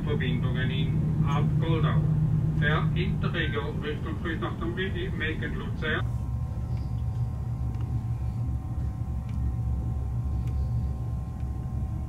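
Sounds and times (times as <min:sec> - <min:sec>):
faint whine: 0:00.0 - 0:12.0
train rumble: 0:00.0 - 0:12.0.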